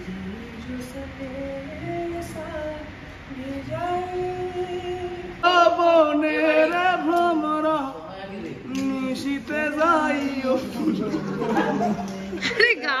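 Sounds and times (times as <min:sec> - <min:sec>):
person singing unaccompanied: 0:00.0 - 0:12.8.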